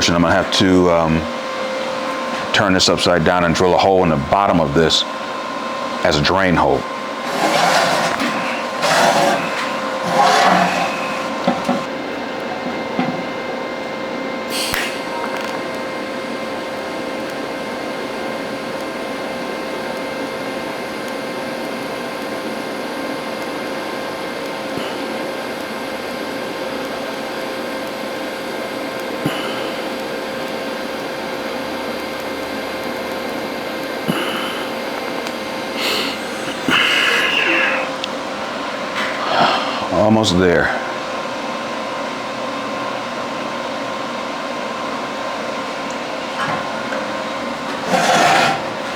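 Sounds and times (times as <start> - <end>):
welding arc buzzing hiss: 0.0 - 12.5, 13.2 - 48.9.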